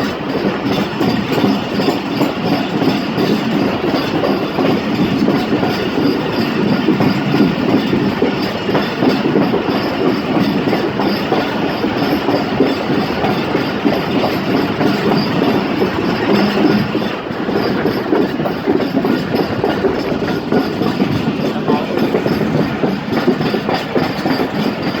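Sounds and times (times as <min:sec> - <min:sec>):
rapid clickety-clack: 0:00.0 - 0:25.0
train wheels rumbling on rails: 0:00.0 - 0:25.0.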